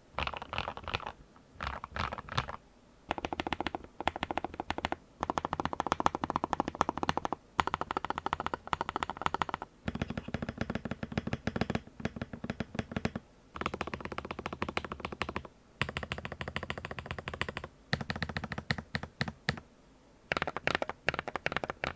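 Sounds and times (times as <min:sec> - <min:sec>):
mechanical keyboard typing: 0:00.2 - 0:19.6, 0:20.3 - 0:21.9.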